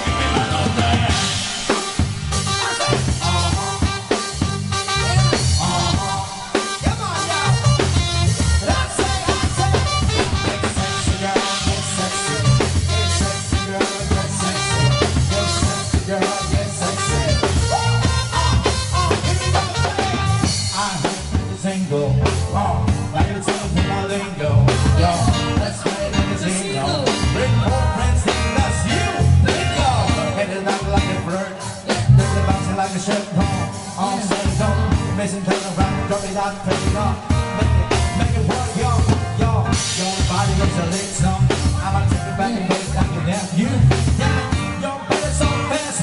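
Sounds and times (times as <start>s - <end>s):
heavy bass line: 0.0s - 46.0s
keyboards: 0.0s - 46.0s
steady drum beat: 0.0s - 46.0s.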